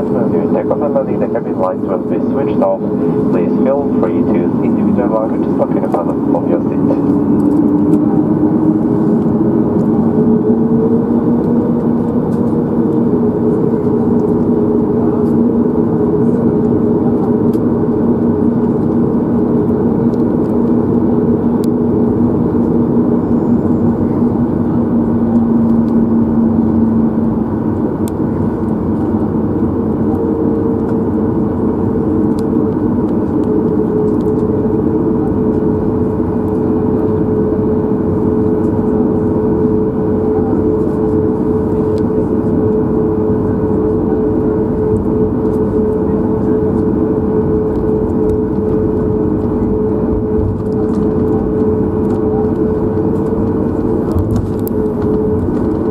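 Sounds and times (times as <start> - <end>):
airplane cabin engine hum: 0.0 - 55.9.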